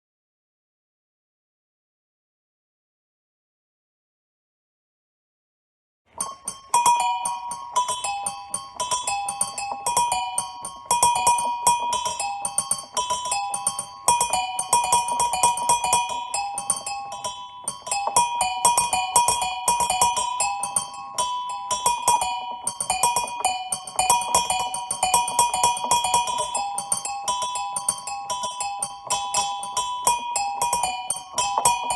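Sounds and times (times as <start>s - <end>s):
small bells ringing: 6.2s - 31.9s.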